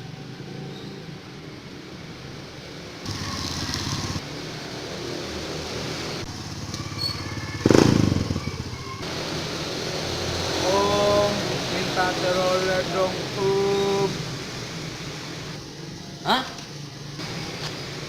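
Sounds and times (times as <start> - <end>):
bus engines driving past: 0.0 - 18.0.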